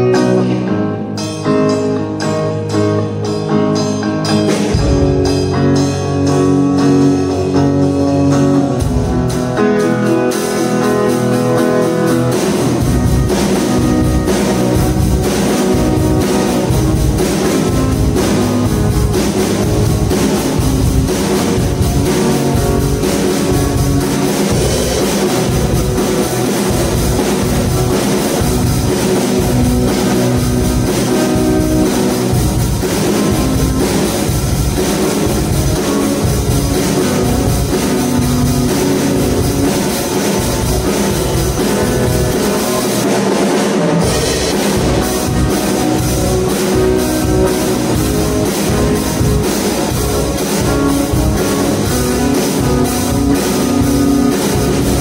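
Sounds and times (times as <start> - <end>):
drum kit beat: 0.0 - 55.0
electric guitar: 0.0 - 55.0.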